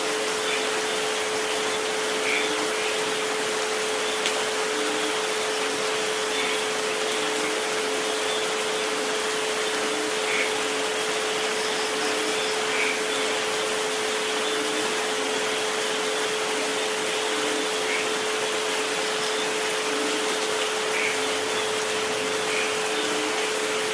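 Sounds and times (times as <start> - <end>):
continuous pure tones: 0.0 - 23.9
rain hissing: 0.0 - 23.9.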